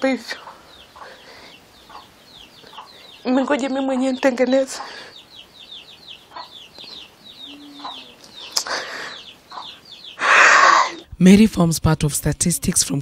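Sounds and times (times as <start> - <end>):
small bird chirping: 0.0 - 11.1.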